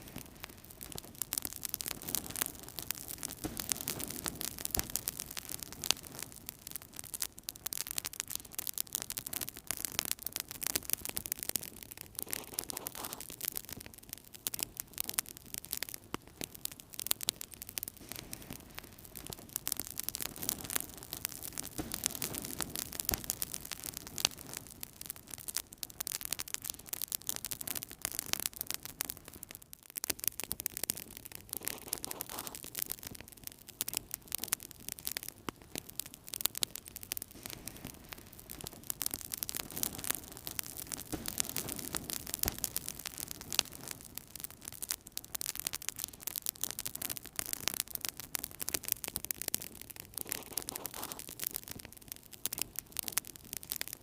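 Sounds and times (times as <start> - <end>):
low rush of flames: 0.0 - 29.4, 30.7 - 51.8
wood fire crackling: 0.0 - 54.0.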